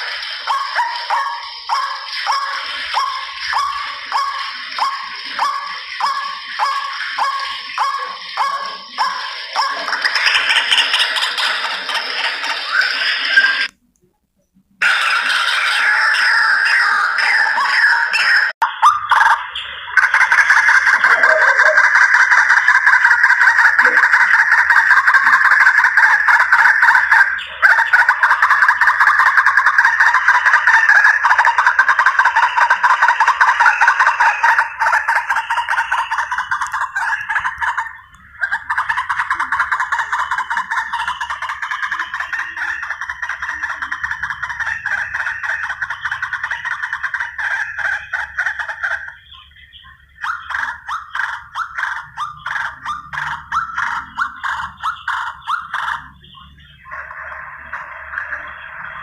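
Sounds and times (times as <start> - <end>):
waterhen calls: 0.0 - 13.7, 14.8 - 49.3, 50.1 - 56.2.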